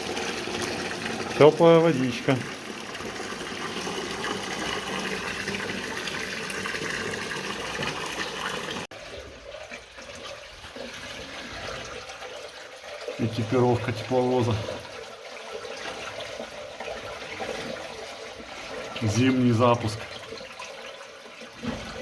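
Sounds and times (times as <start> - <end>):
water pouring into tank: 0.0 - 22.0
water trickling: 0.0 - 22.0.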